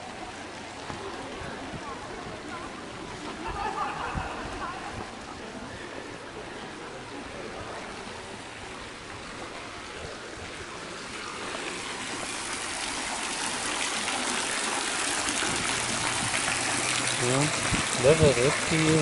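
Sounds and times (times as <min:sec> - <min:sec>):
fountain splashing into pool: 0:00.0 - 0:19.0.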